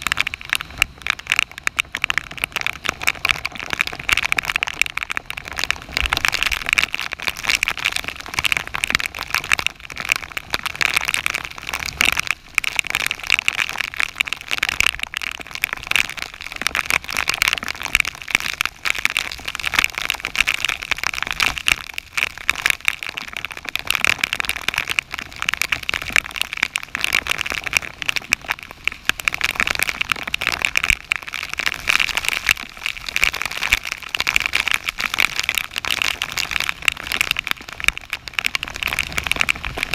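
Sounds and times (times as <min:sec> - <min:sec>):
raindrops pattering on kayak: 0:00.0 - 0:39.9.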